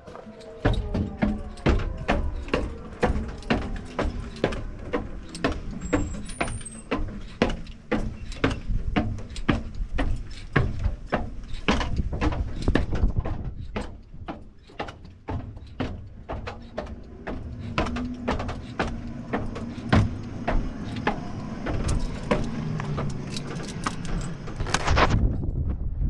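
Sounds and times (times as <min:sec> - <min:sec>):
footsteps on metal stairs: 0:00.0 - 0:25.1.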